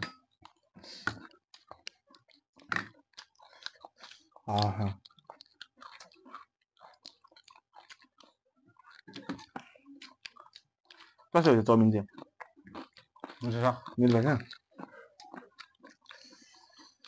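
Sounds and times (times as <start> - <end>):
person chewing and crunching food: 0.0 - 17.0
wet mouth clicks and lip smacks: 0.4 - 11.3, 12.1 - 17.0.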